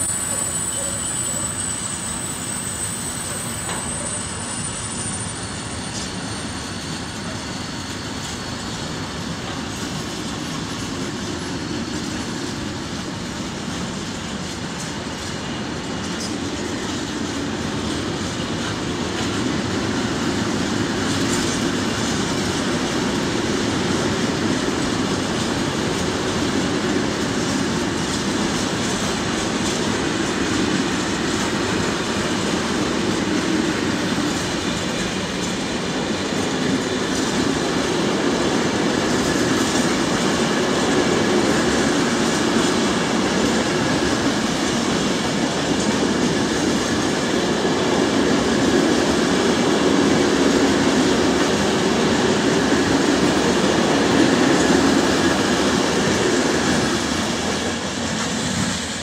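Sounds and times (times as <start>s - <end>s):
freight train rolling on rails: 0.0s - 59.0s.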